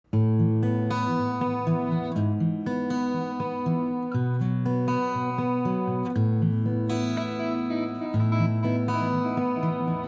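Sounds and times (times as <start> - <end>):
acoustic guitar picking: 0.1 - 10.0.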